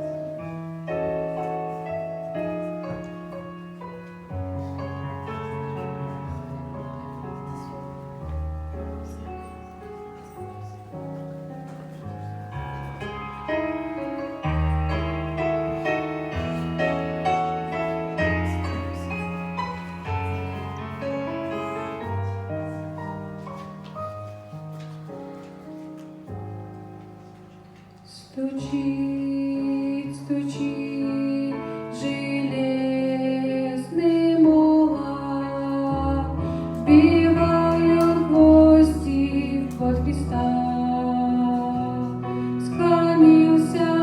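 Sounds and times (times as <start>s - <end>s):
hymn played on keyboard piano: 0.0s - 44.0s.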